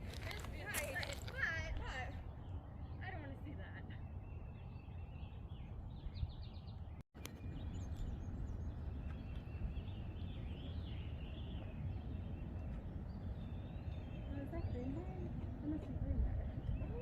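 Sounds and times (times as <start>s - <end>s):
songbirds chirping: 0.0s - 17.0s
wind rumble on microphone: 0.0s - 17.0s.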